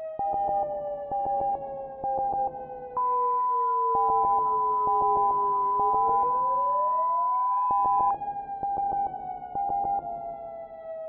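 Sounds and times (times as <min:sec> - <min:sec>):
synthesized siren wail: 0:00.0 - 0:11.0.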